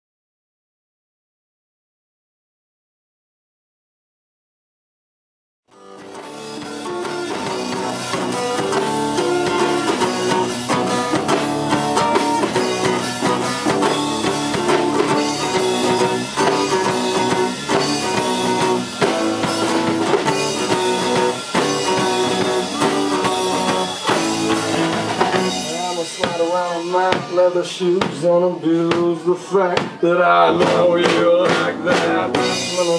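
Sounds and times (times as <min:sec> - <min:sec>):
live rock band playing: 0:05.7 - 0:32.9.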